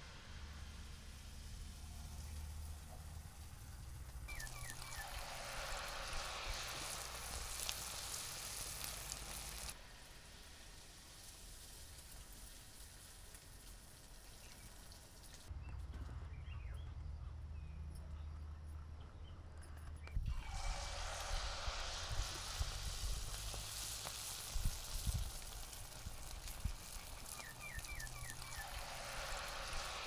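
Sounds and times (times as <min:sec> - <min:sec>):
batter sizzling in hot oil: 0:00.0 - 0:15.5, 0:20.2 - 0:30.0.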